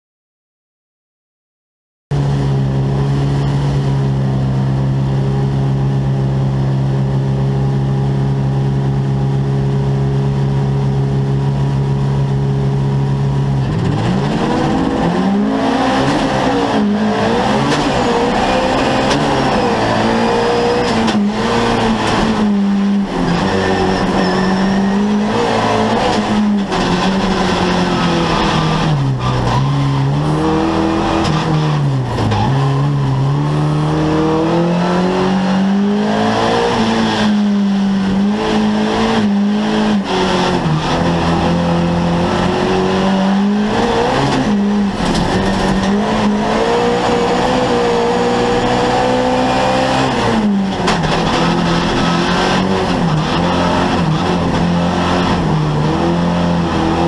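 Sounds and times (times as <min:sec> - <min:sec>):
race car engine revving: 0:02.1 - 0:57.0.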